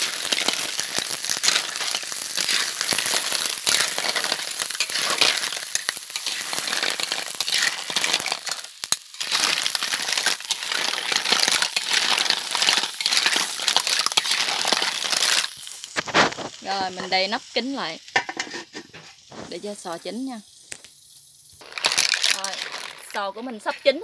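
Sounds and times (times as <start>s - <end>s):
clams clattering in a metal wok: 0.0s - 17.2s, 18.0s - 19.3s, 21.6s - 24.0s
frying sizzle: 0.0s - 24.0s.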